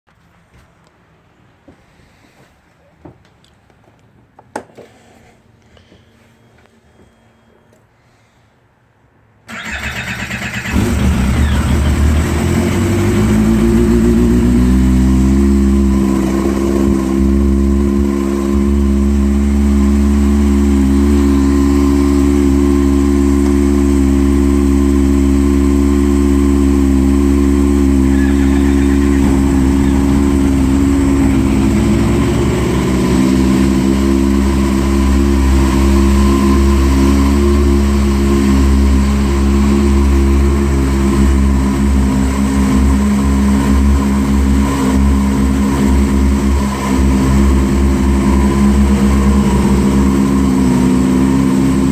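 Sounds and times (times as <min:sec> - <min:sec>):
snowmobile engine revving and idling: 0:09.6 - 0:51.9.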